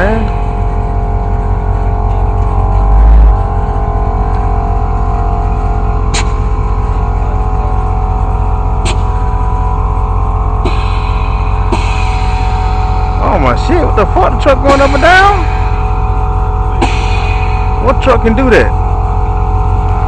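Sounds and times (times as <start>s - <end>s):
bass-heavy music from truck speakers: 0.0s - 20.0s.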